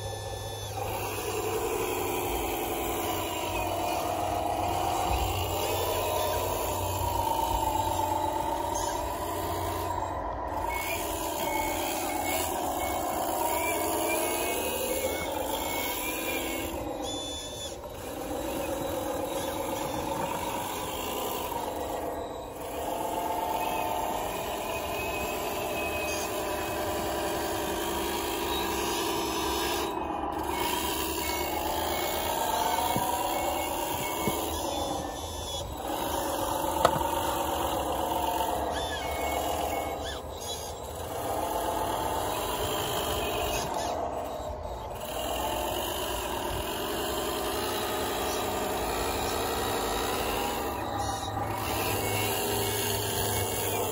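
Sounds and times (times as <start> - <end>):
electric motors and hydraulic whine: 0.0 - 53.9
reversing beeper: 0.0 - 53.9.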